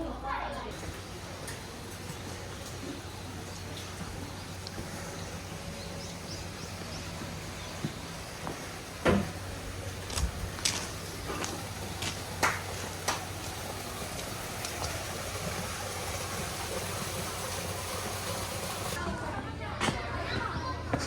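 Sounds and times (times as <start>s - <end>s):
low engine hum: 0.8s - 20.9s.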